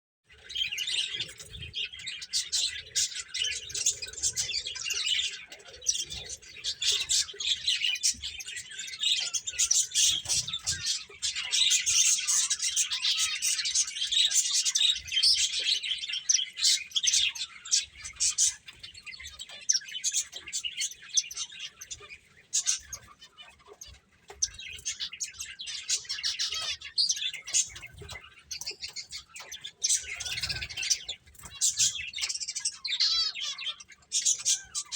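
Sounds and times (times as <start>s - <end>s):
finches chirping: 0.3s - 34.9s.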